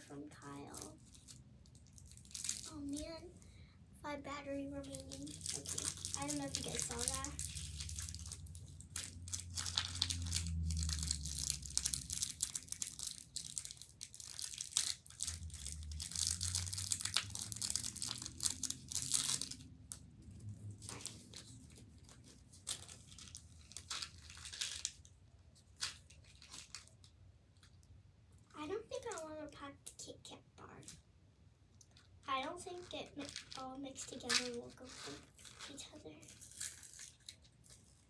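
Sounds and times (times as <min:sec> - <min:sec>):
plastic wrappers crinkling: 0:00.4 - 0:03.4, 0:04.5 - 0:27.9, 0:31.8 - 0:38.0.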